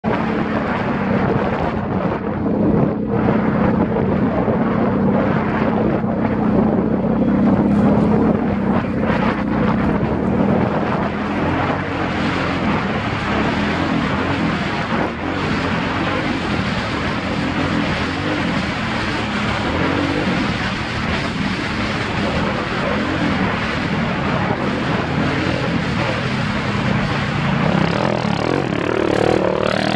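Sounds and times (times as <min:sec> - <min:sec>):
atv engine running: 0:00.0 - 0:29.9
wind noise on microphone: 0:00.0 - 0:29.9.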